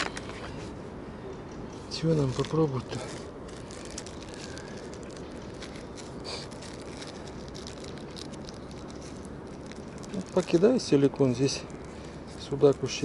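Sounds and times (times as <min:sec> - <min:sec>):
fishing tackle clicks and rustles: 0:01.4 - 0:13.0.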